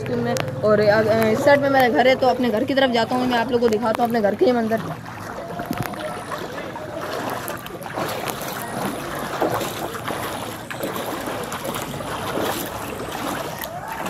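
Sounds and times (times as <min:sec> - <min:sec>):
feet wading through water: 0:00.0 - 0:14.0.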